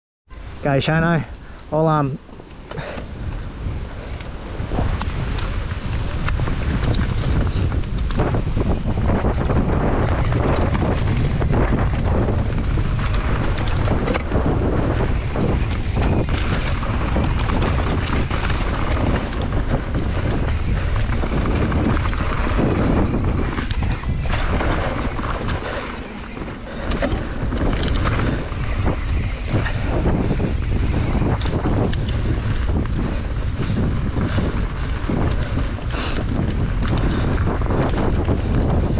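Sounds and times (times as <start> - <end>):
bike tyres on dirt trail: 0.3 - 38.9
wind buffeting microphone: 0.3 - 38.9
bike clicks and rattles: 1.3 - 38.9.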